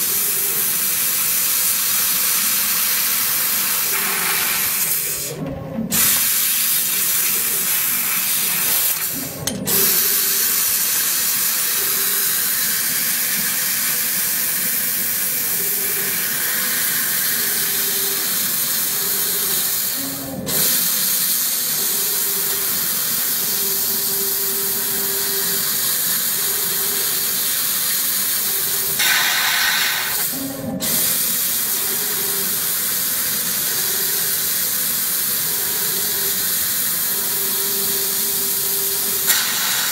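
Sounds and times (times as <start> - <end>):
laser cutting head hissing: 0.0 - 5.3, 6.0 - 39.9.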